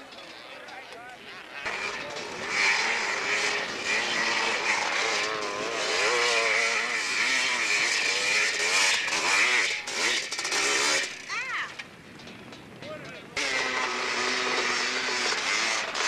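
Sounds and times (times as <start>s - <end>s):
dirt bike engine revving: 0.0s - 11.6s, 13.3s - 16.0s.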